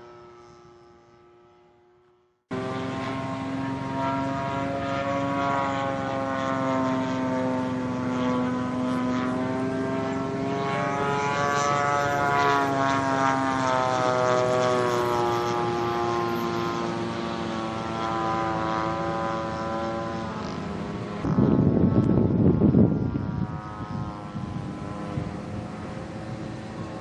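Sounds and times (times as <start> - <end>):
model plane engine running: 0.0 - 27.0.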